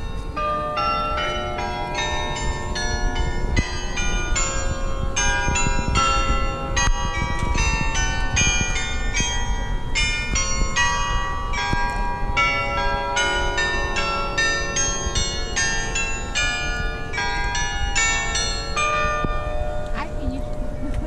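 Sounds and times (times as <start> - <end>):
carillon bells playing a melody: 0.0 - 21.0
low wind rumble on microphone: 0.0 - 21.0.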